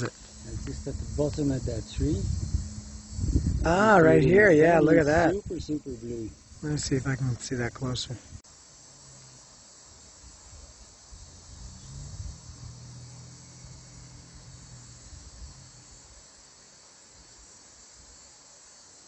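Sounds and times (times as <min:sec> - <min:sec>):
faint low hum: 0:00.0 - 0:08.4, 0:09.0 - 0:16.4
insects chirring: 0:00.0 - 0:19.0.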